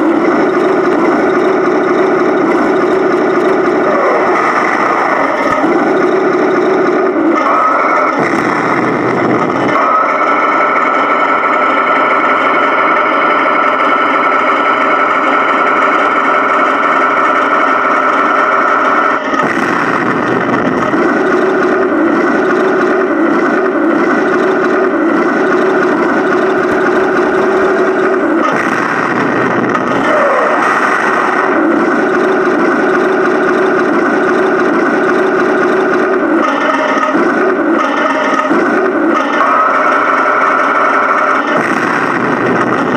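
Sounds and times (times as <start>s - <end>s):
simulated engine drone: 0.0s - 42.9s.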